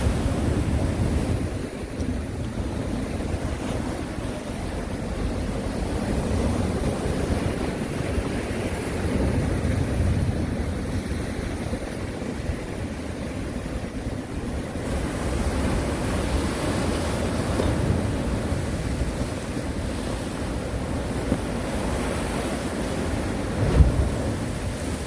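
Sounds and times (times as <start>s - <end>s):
sea waves washing on shore: 0.0s - 25.0s
wind rumble on microphone: 0.0s - 25.0s.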